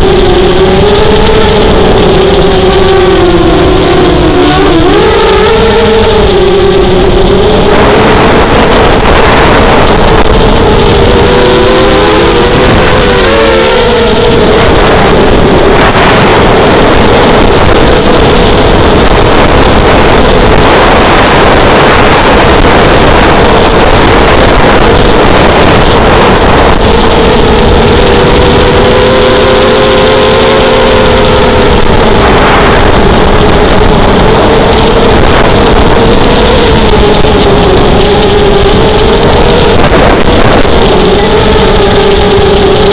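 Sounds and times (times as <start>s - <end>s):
drone motors whining: 0.0s - 42.9s
wind noise: 0.0s - 42.9s.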